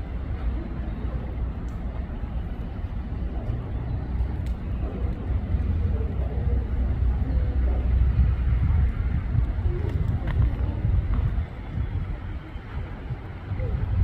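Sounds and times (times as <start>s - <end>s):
low rumble of train: 0.0s - 14.0s.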